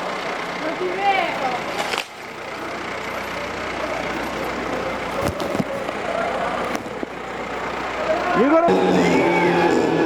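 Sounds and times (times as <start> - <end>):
car engines running: 0.0 - 10.0
crowd voices: 0.0 - 10.0.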